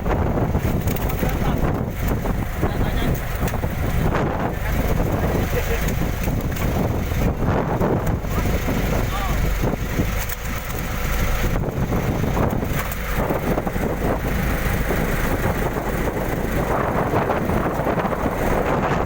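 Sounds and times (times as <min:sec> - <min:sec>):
boat engine: 0:00.0 - 0:19.0
water noise: 0:00.0 - 0:19.0
wind buffeting microphone: 0:00.0 - 0:19.0.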